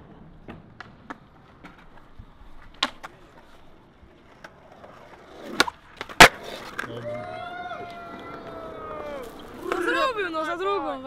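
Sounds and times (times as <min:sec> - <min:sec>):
skateboard wheels on concrete: 0:00.0 - 0:11.0
skateboard clicks: 0:00.4 - 0:07.2, 0:07.8 - 0:10.2.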